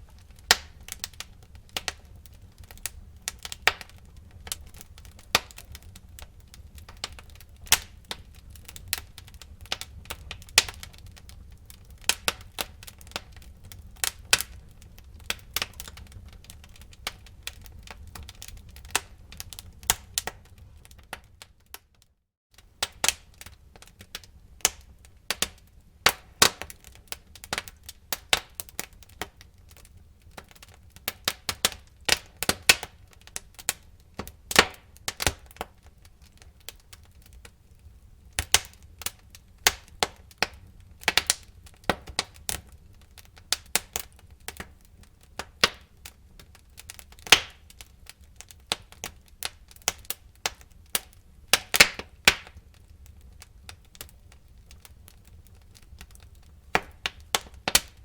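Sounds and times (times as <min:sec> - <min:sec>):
fire flames rumbling: 0:00.0 - 0:21.6, 0:22.7 - 0:58.0
fire crackling and popping: 0:00.0 - 0:58.0.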